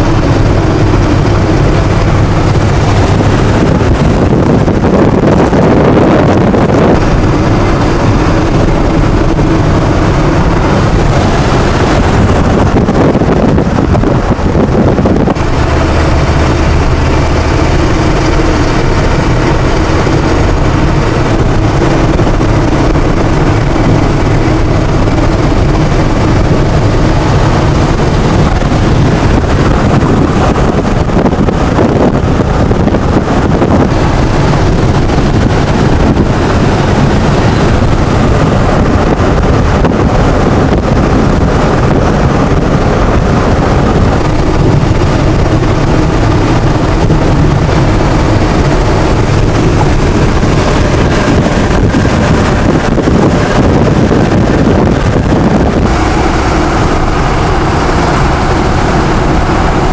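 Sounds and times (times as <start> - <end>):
low engine hum: 0.0 - 59.9
road and wind noise in a vehicle: 0.0 - 59.9.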